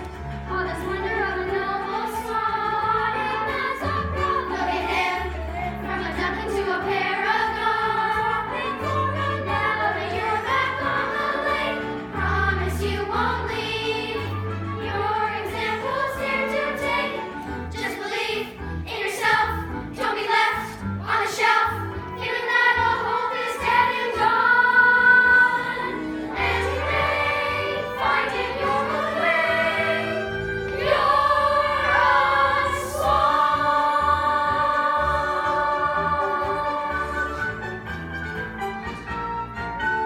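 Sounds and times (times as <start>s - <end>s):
group of voices singing: 0.0s - 37.6s
instrumental accompaniment: 0.0s - 40.0s.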